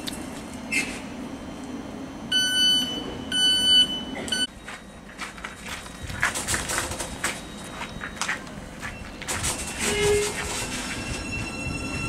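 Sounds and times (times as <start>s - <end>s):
high-pitched warning beeps: 0.7s - 12.0s.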